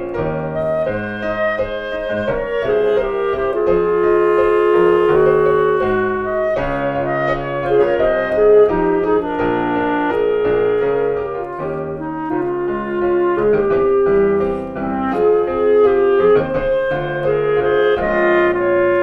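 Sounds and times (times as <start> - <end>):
clarinet melody: 0.0 - 19.0
piano chords: 0.0 - 19.0.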